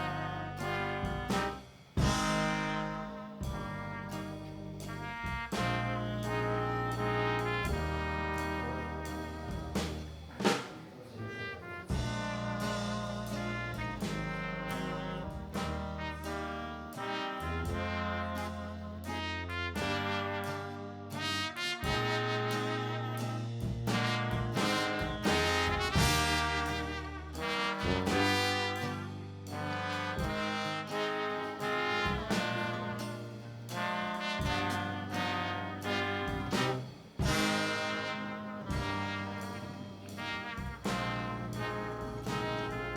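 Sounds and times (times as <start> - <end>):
bass line: 0.0 - 42.9
brass melody: 0.0 - 42.9.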